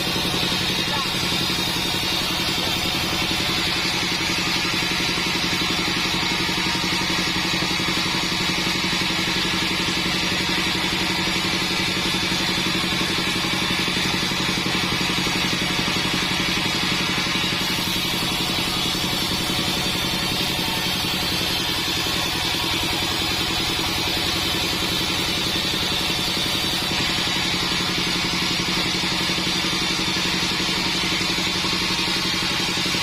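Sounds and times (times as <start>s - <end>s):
band saw humming and whining: 0.0s - 33.0s.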